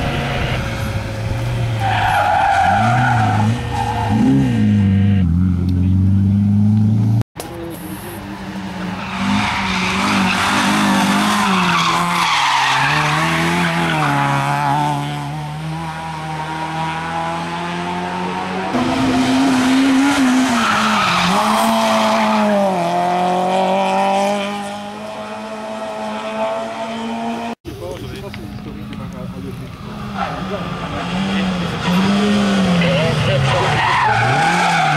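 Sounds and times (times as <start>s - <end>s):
rally car engine revving: 0.0s - 27.6s, 28.5s - 34.9s.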